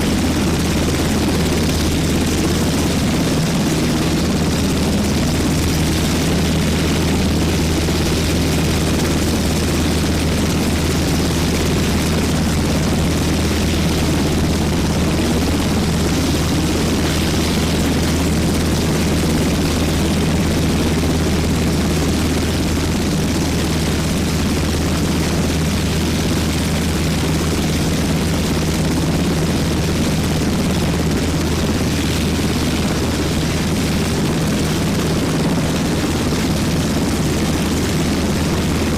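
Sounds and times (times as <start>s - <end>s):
helicopter engine rushing: 0.0s - 38.9s
helicopter rotor drone: 0.0s - 38.9s.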